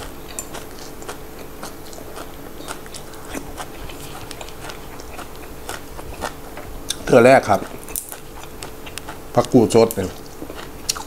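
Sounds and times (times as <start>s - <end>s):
person chewing crisp greens: 0.0s - 11.0s.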